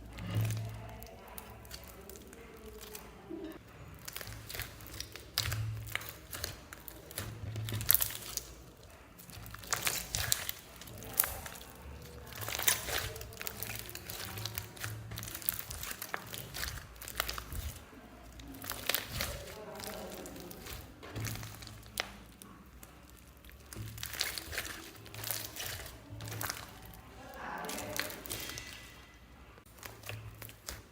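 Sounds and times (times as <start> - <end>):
slime squeezed by hand crackling: 0.0 - 30.9.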